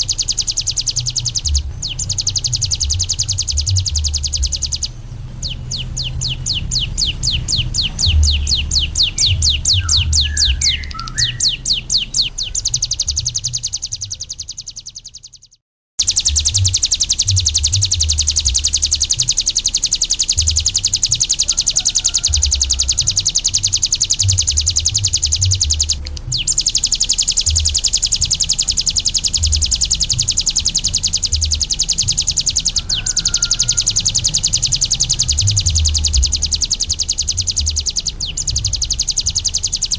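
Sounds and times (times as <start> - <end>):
uneven low rumbling: 0.0 - 15.0, 20.3 - 39.9
bird singing fast buzzing trill: 0.0 - 39.9.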